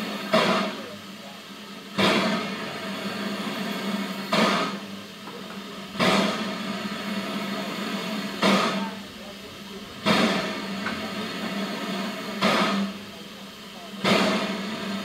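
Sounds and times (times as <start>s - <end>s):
sharp steam puffs: 0.0s - 15.0s
steam locomotive simmering hum: 0.0s - 15.0s.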